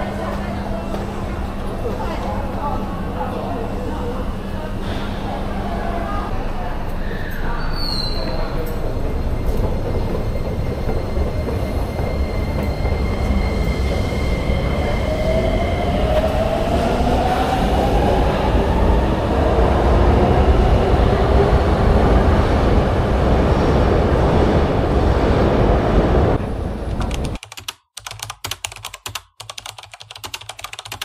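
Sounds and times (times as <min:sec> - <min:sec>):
subway train rumble: 0:00.0 - 0:27.4.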